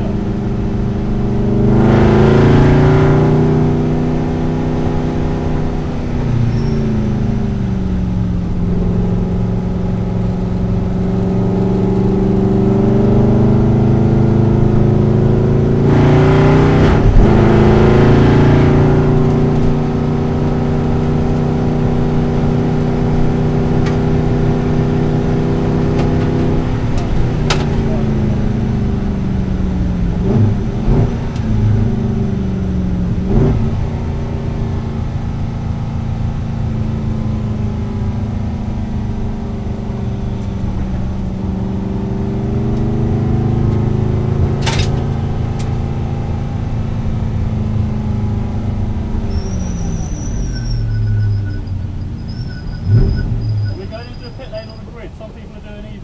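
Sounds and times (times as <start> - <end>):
racing car engine from cabin: 0.0 - 56.0.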